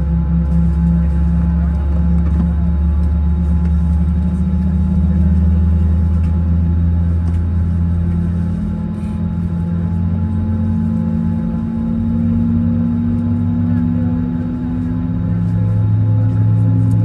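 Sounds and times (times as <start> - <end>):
aircraft cabin hum: 0.0 - 17.0.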